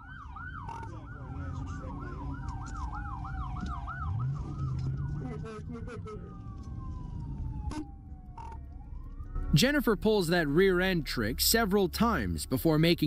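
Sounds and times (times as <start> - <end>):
police siren yelp: 0.0 - 11.1
police siren wail: 0.0 - 11.4
car engine and road noise: 0.0 - 13.0.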